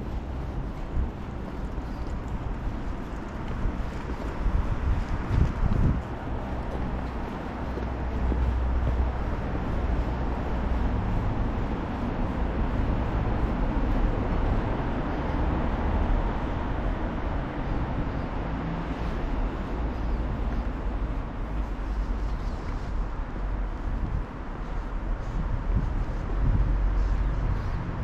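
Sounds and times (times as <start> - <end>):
rumble of road traffic: 0.0 - 28.0.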